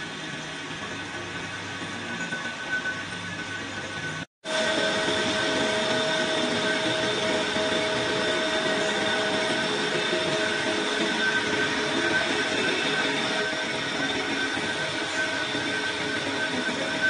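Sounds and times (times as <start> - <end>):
high whining tones: 0.0 - 17.0
lathe cutting metal pipe: 0.0 - 17.0.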